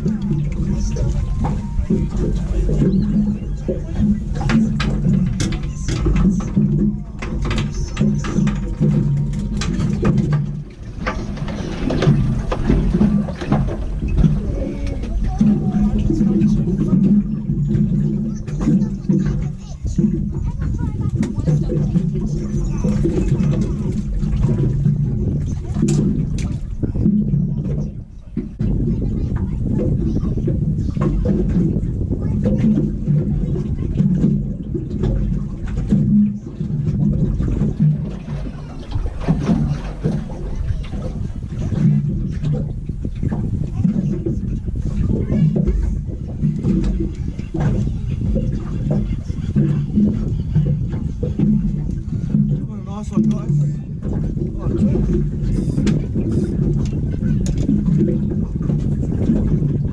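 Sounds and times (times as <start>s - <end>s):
water sloshing against hull: 0.0s - 59.9s
wind rumbling on microphone: 0.0s - 59.9s.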